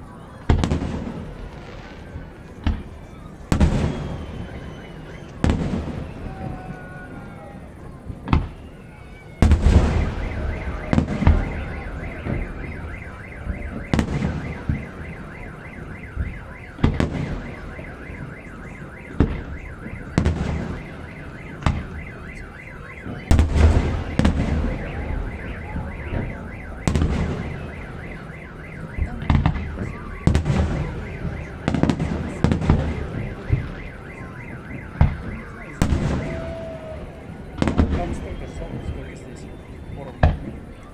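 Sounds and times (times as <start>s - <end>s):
fireworks booming: 0.0s - 40.9s
warbling alarm-like wail: 0.0s - 40.9s.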